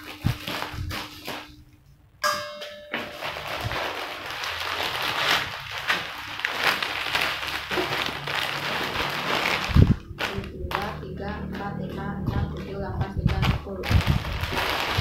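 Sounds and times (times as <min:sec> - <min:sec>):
plastic packets crinkling: 0:00.0 - 0:01.9, 0:03.0 - 0:15.0.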